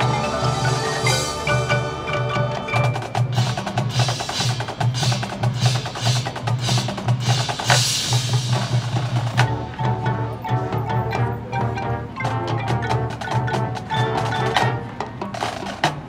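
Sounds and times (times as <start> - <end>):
mallet keyboards: 0.0 - 16.0
marching band percussion: 0.0 - 16.0.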